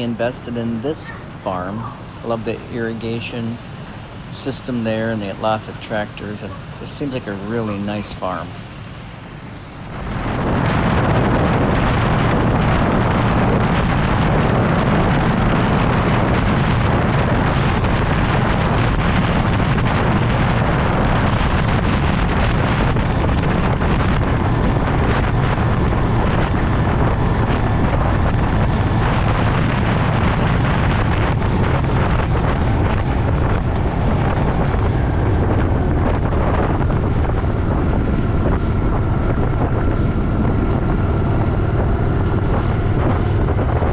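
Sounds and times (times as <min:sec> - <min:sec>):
motorcycle engine drone: 0:00.0 - 0:43.9
wind noise on microphone: 0:00.0 - 0:43.9.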